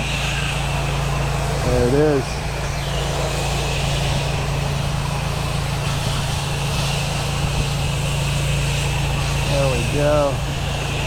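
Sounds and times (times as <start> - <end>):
pressure washer engine humming: 0.0 - 11.0
water spray hissing: 0.0 - 11.0.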